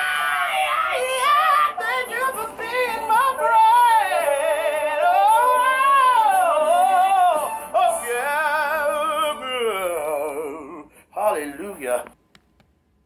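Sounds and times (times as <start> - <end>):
woman singing with vibrato: 0.0 - 10.8.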